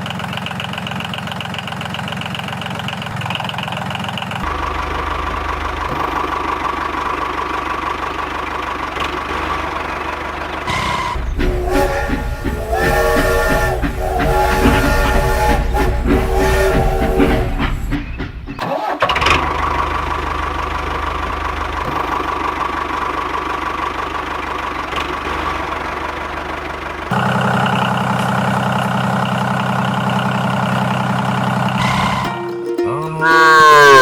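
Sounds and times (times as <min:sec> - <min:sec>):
low engine idle: 0:00.0 - 0:18.6, 0:19.4 - 0:32.2
engine running: 0:00.0 - 0:32.5.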